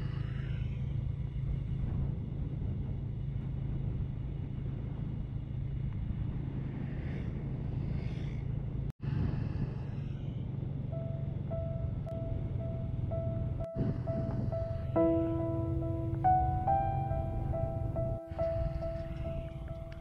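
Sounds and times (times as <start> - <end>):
vehicle driving on paved road: 0.0 - 20.0.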